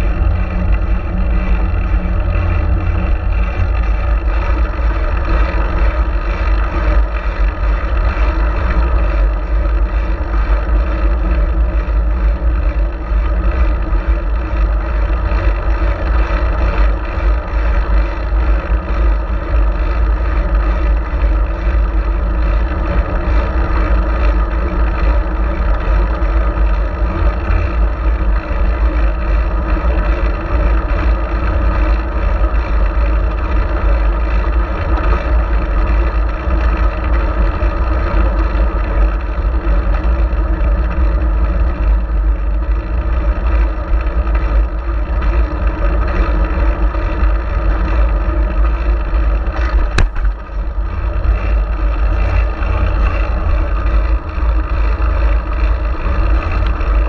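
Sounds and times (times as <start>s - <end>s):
road and tyre noise: 0.0s - 57.0s
wind rush on microphone: 0.0s - 57.0s.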